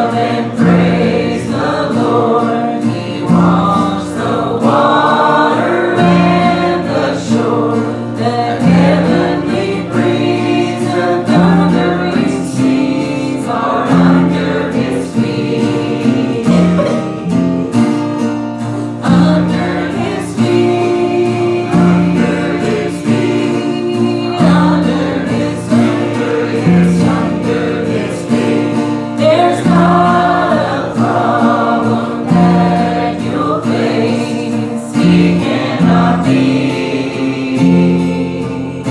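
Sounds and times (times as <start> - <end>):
congregation singing a hymn: 0.0 - 38.9
instrumental accompaniment: 0.0 - 38.9.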